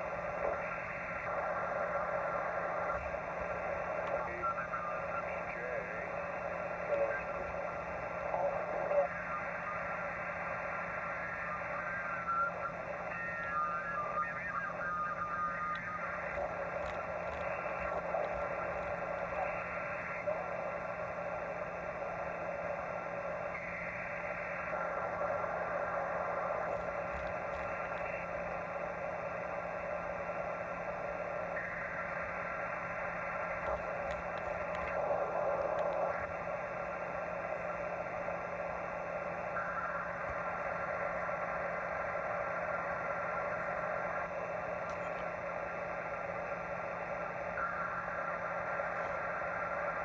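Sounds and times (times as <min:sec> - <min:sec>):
radio static hiss: 0:00.0 - 0:50.0
steady radio tones: 0:00.0 - 0:50.0.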